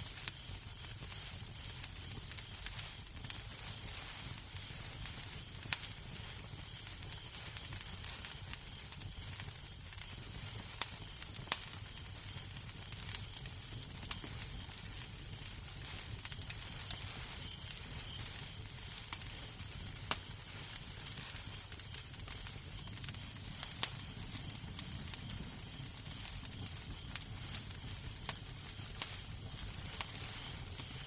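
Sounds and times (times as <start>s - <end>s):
fire popping and snapping: 0.0s - 31.0s
wood fire crackling: 0.0s - 31.0s.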